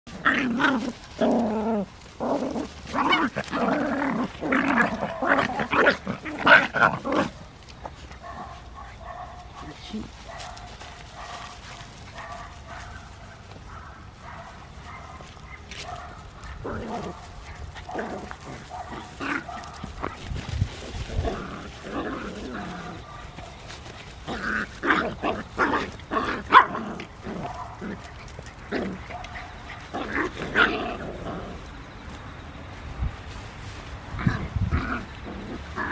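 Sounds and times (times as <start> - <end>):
puppies growling and yapping: 0.1 - 8.7, 10.6 - 32.3, 33.3 - 35.9.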